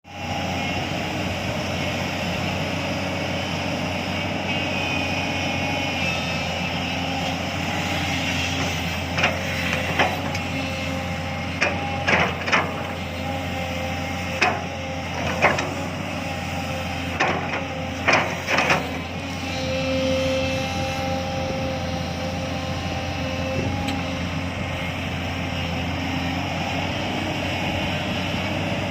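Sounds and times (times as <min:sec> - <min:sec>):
excavator diesel engine running: 0:00.1 - 0:28.9.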